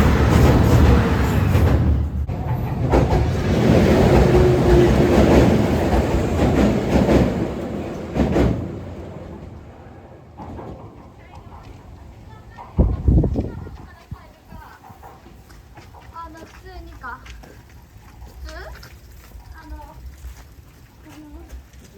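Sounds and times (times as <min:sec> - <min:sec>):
train running on rails: 0:00.0 - 0:21.9.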